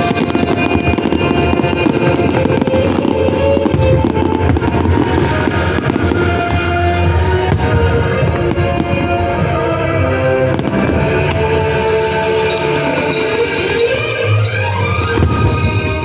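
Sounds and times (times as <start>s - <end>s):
fireworks bursting and crackling: 0.0s - 16.0s
loud music with held notes: 0.0s - 16.0s.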